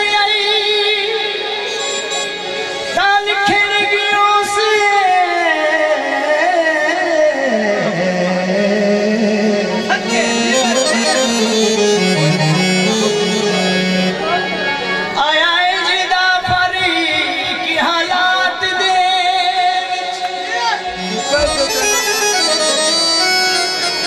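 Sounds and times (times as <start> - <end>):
harmonium melody over drone: 0.0 - 24.0.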